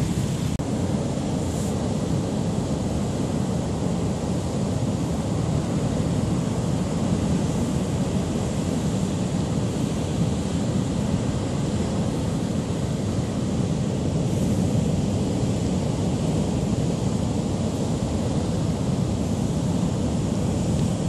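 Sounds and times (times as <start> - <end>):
heavy surf breaking on rocks: 0.0 - 21.0.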